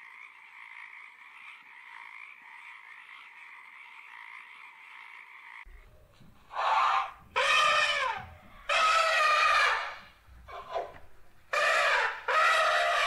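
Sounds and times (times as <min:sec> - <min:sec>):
frog calling: 0:00.0 - 0:05.9, 0:06.5 - 0:10.9, 0:11.5 - 0:13.0.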